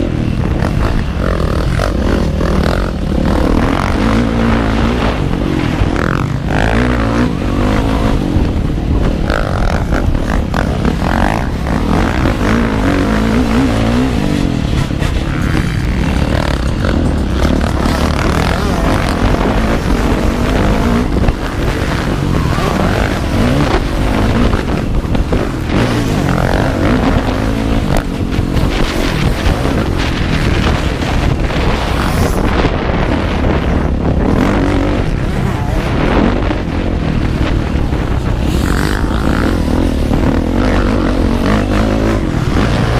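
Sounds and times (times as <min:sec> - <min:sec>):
motocross bike engine revving: 0:00.0 - 0:42.9
wind buffeting microphone: 0:00.0 - 0:42.9.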